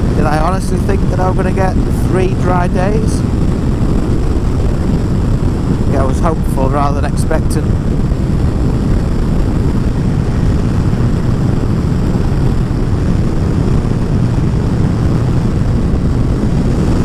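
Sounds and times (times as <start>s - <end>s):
motorcycle engine drone: 0.0s - 17.0s
wind rush: 0.0s - 17.0s.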